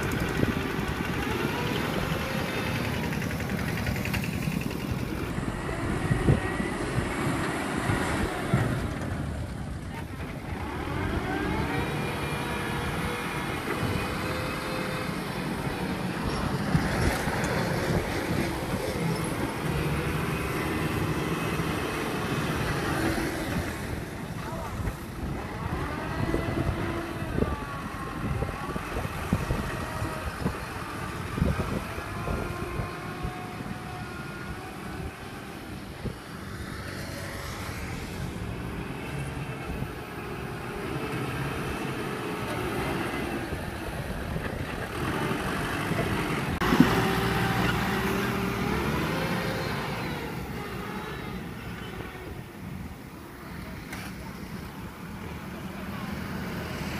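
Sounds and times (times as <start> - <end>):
tractor diesel engine under load: 0.0 - 56.9.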